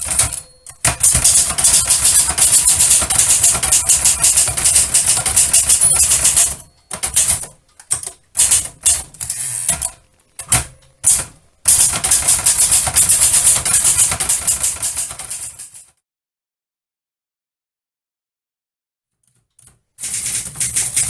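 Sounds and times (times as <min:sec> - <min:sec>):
typewriter typing: 0:00.0 - 0:16.0, 0:19.6 - 0:21.0.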